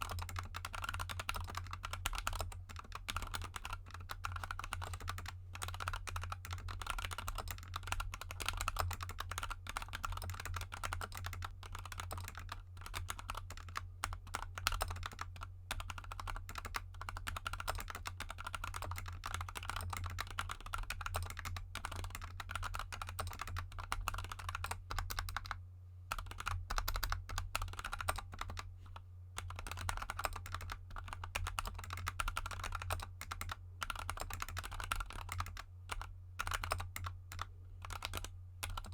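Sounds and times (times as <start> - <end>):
fast typing on mechanical keyboard: 0.0 - 28.7, 29.4 - 38.9.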